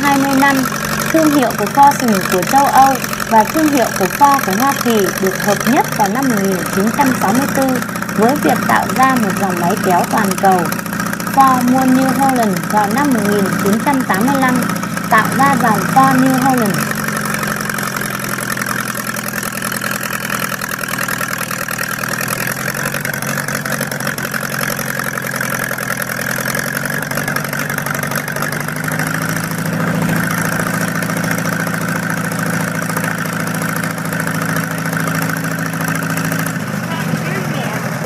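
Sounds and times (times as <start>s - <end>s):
tractor engine idling: 0.0s - 38.0s.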